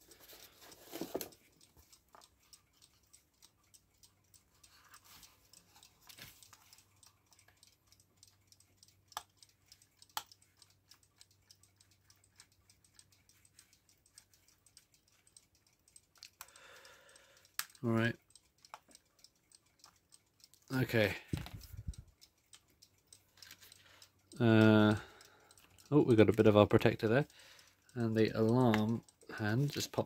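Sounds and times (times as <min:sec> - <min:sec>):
mechanical clock ticking: 0:00.0 - 0:30.0
sharp clicks: 0:05.5 - 0:30.0.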